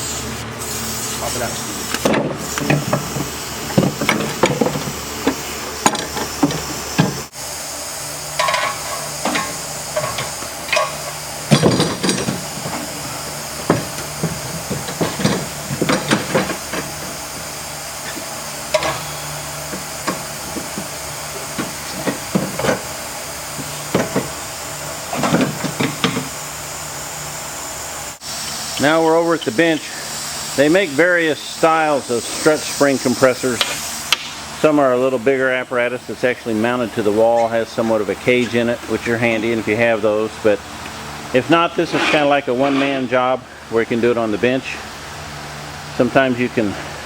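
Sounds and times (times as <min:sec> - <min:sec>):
steady background hiss: 0:00.0 - 0:47.0.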